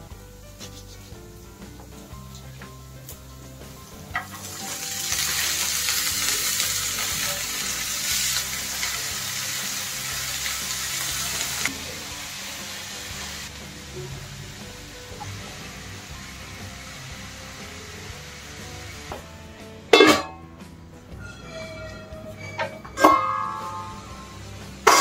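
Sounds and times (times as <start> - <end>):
soft background music: 0.0 - 25.0
greens sizzling in hot oil: 0.4 - 19.7, 23.2 - 25.0.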